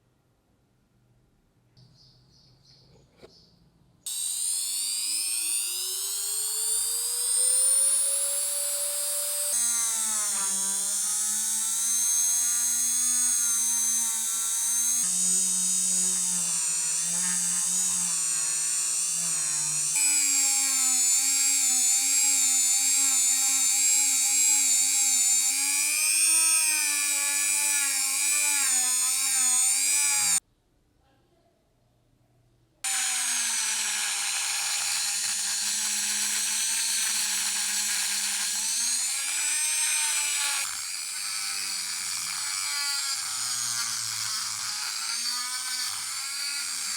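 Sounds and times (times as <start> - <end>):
power tool motor whining: 4.1 - 30.4, 32.9 - 46.9.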